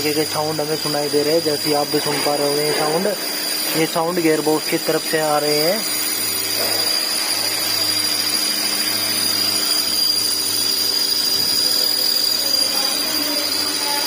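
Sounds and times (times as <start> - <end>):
gearbox mechanical hum: 0.0 - 14.0.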